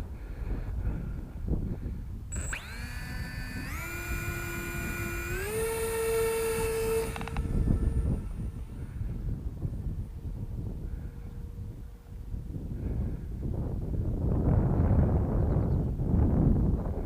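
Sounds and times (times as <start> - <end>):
wind noise on microphone: 0.0 - 17.0
electric motor and propeller whine: 2.0 - 17.0.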